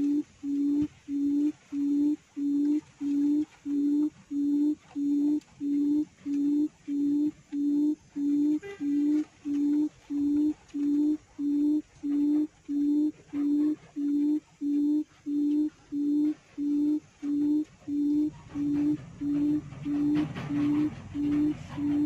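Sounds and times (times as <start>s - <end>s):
quail call through speaker: 0.0s - 22.0s.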